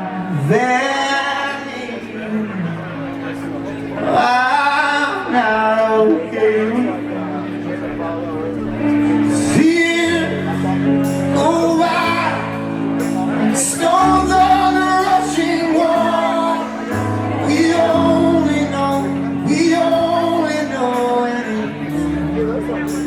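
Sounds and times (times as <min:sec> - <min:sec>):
held bass notes: 0:00.0 - 0:23.0
live rock band: 0:00.0 - 0:23.0
person singing: 0:00.0 - 0:23.0.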